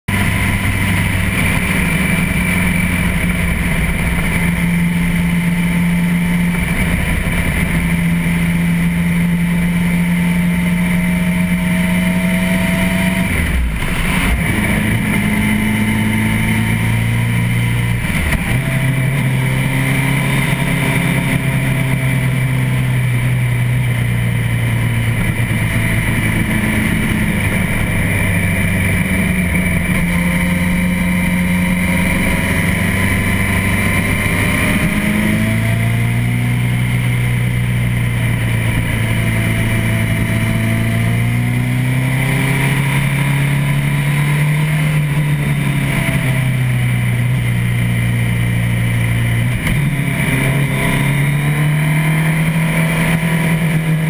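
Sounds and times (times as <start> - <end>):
motorcycle engine running: 0.1 - 54.0
road and wind noise: 0.1 - 54.0.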